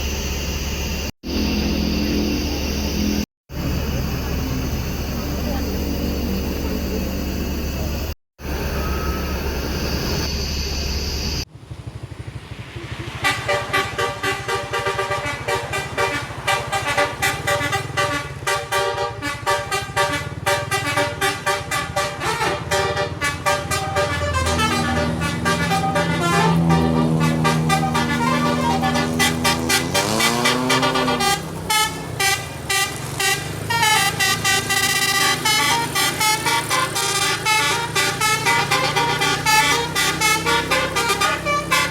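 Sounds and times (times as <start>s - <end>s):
engine and road rumble: 0.0s - 41.9s
multi-tone bus horn tune: 1.2s - 9.5s, 13.2s - 41.9s.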